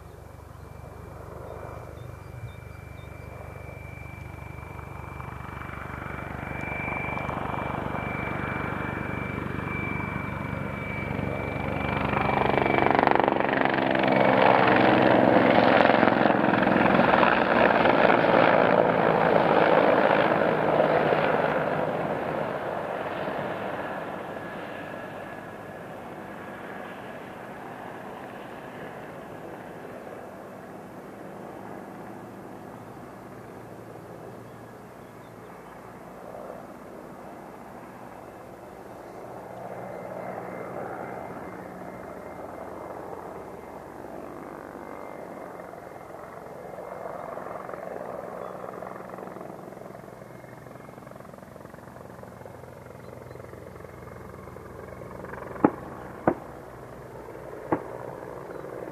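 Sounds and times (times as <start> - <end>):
helicopter drone: 0.0 - 58.9.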